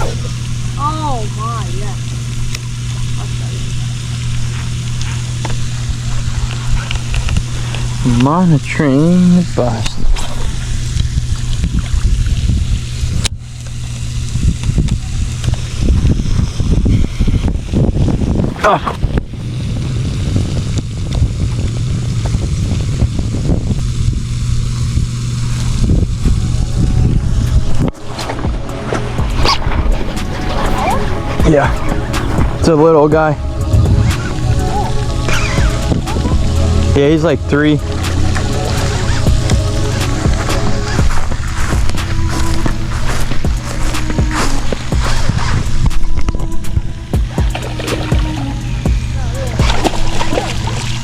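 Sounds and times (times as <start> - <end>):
steady low hum: 0.0 - 51.0
wind buffeting: 0.0 - 51.0.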